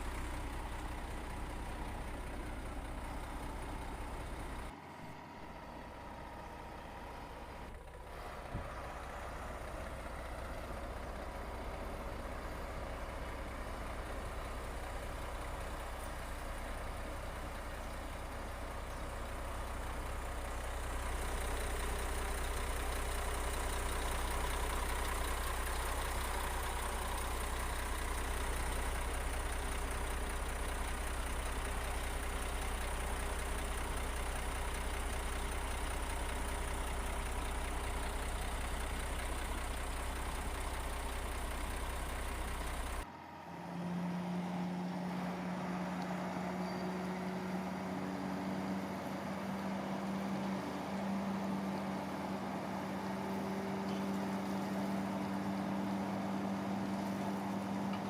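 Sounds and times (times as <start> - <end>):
heavy machinery diesel engine drone: 0.0 - 58.0.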